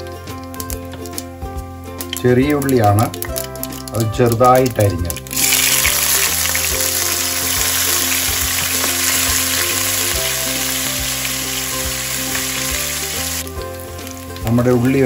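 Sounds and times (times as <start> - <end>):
shallots sizzling in oil: 0.0 - 15.0.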